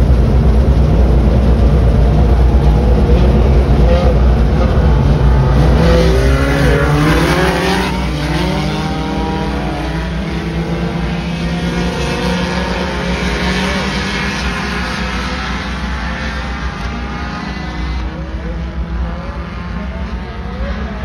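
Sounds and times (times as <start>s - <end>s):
race car engines running hard: 0.0s - 21.0s.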